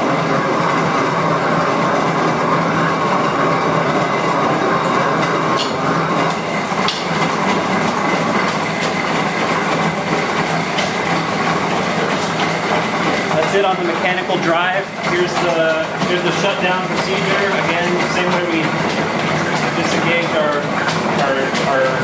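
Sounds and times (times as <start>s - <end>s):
milling machine running: 0.0s - 22.0s.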